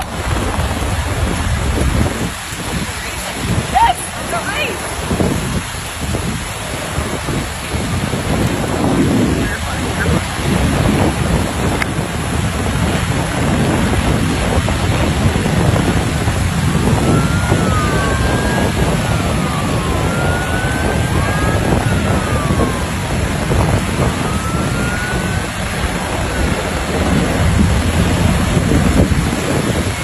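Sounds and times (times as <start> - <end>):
helicopter rotor and turbine: 0.0 - 30.0
high-speed boat engines: 0.0 - 30.0
wind on microphone: 0.0 - 30.0.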